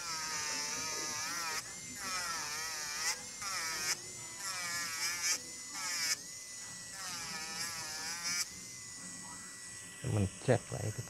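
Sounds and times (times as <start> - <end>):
electric nail drill grinding: 0.0 - 11.0.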